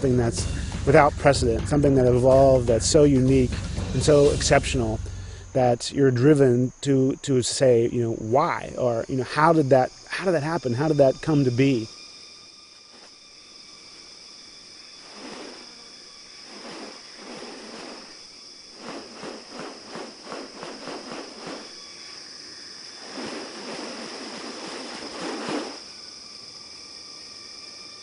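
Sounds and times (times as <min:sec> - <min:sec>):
high-pitched insect drone: 0:00.0 - 0:28.0.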